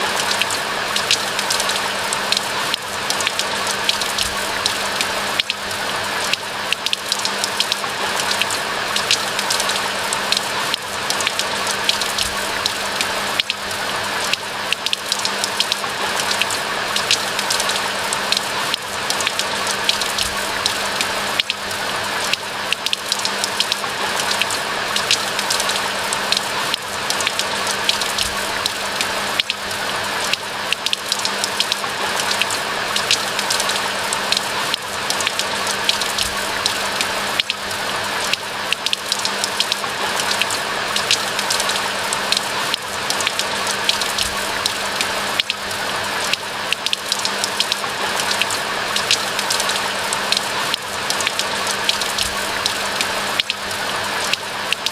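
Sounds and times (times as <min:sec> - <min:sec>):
raindrops ticking: 0:00.0 - 0:54.9
steady rain hiss: 0:00.0 - 0:54.9.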